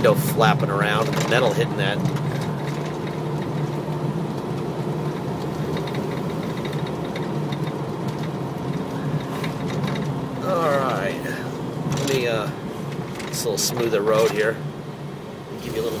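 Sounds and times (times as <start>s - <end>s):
engine and road hum in car: 0.0s - 16.0s.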